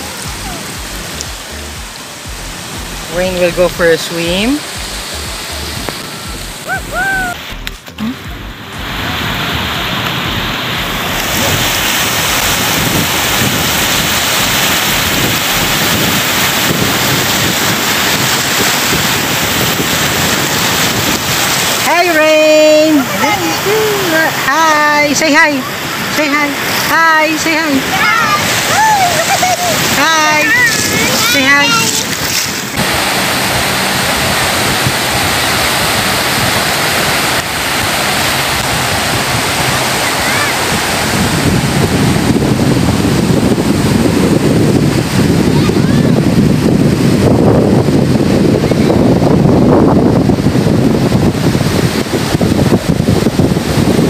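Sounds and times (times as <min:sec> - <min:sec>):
small waves breaking: 0:00.0 - 0:54.0
wind buffeting microphone: 0:00.0 - 0:54.0.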